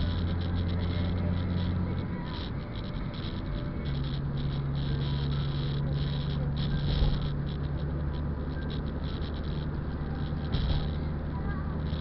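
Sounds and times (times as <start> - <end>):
car engine hum and road rumble: 0.0 - 12.0
rain pattering on windshield: 0.0 - 12.0.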